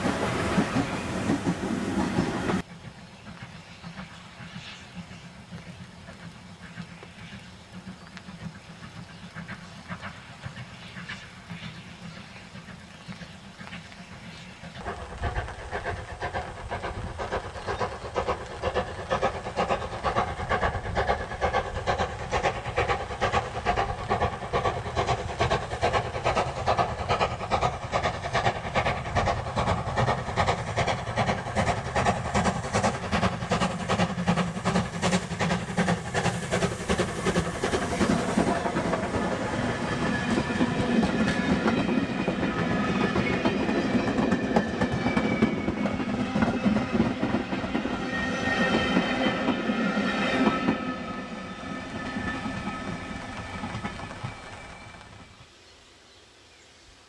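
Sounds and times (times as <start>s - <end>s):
coaches rolling on rails: 0.0s - 55.5s
steam locomotive exhaust beating: 0.0s - 55.5s.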